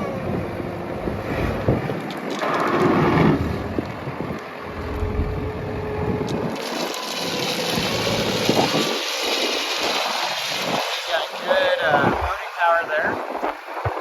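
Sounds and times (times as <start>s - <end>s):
diesel engine under load: 0.0s - 14.0s
hydraulics working: 0.0s - 14.0s.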